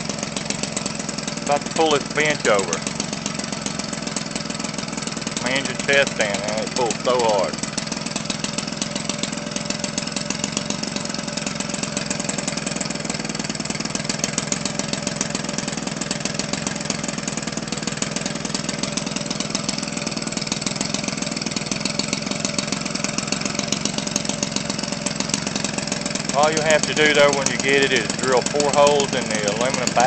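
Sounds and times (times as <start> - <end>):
small two-stroke engine running: 0.0 - 30.0.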